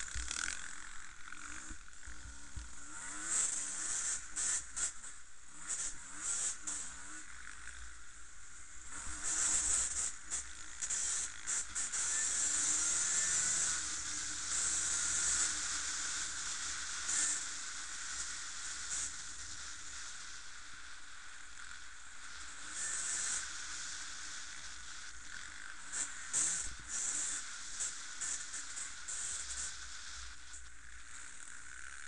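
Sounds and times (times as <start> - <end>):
distant motorcycles droning: 0.0 - 32.0.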